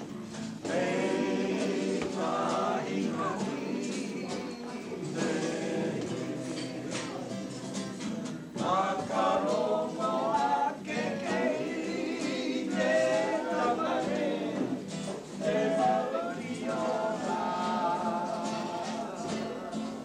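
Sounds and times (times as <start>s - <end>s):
group singing together: 0.0s - 20.0s
strummed acoustic guitar: 0.0s - 20.0s.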